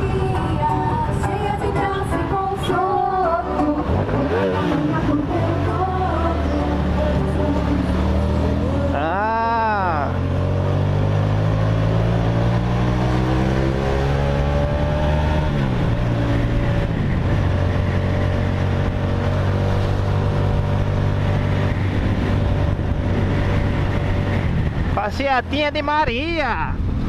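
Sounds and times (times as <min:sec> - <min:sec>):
motorcycle engine while riding: 0:02.7 - 0:25.9, 0:26.8 - 0:27.0.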